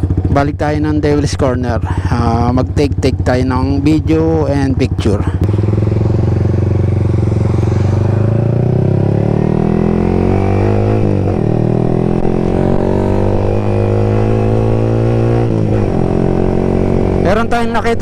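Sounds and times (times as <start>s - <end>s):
motorcycle engine with open exhaust: 0.0s - 18.0s.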